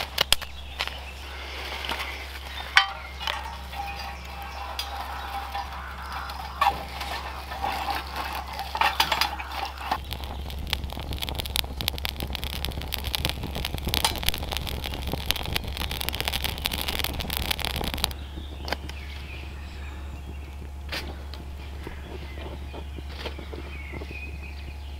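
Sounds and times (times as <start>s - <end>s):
fire crackling and popping: 0.0s - 24.9s
wood snapping in fire: 0.0s - 24.9s.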